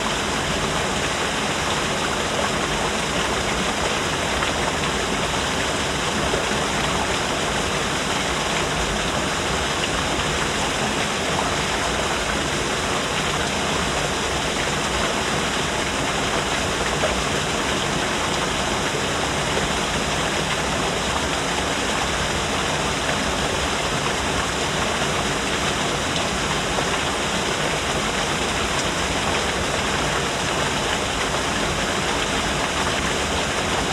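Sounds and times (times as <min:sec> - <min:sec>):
water falling and splashing: 0:00.0 - 0:33.9.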